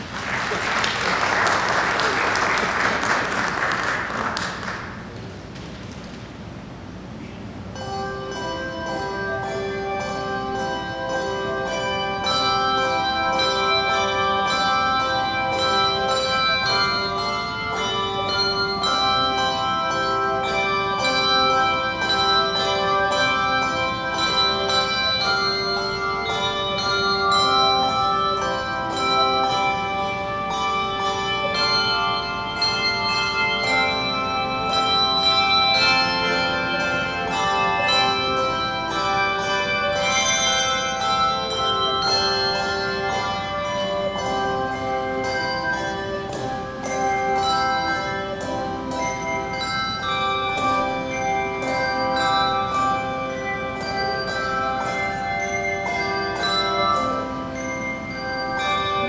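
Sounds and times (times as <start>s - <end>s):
handbell choir playing: 0.0s - 5.1s, 7.6s - 59.0s.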